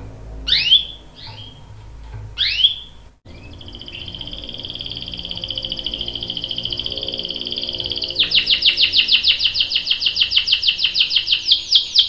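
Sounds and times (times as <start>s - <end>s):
canary rapid trill: 0.0s - 1.8s, 2.4s - 12.0s
canary whistled calls: 0.5s - 1.6s, 2.4s - 12.0s.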